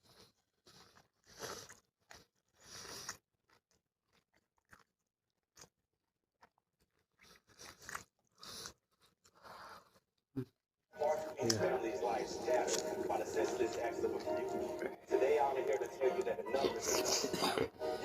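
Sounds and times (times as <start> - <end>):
crunching and chewing crispy food: 0.0 - 10.2, 11.0 - 17.5.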